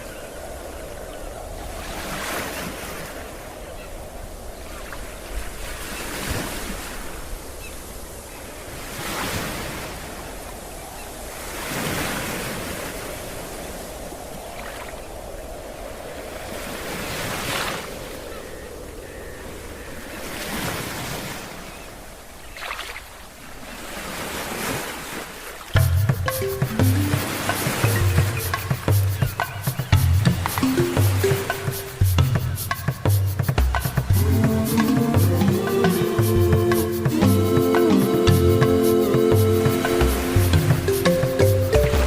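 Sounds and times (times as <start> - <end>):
ocean waves breaking: 0.0 - 42.0.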